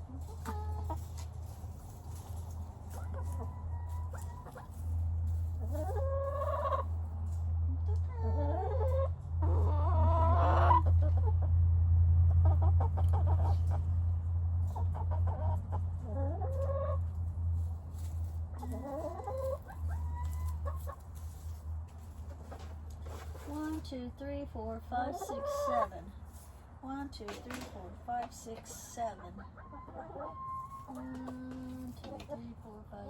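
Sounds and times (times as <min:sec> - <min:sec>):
chicken clucking: 0:00.0 - 0:11.6, 0:12.2 - 0:33.0.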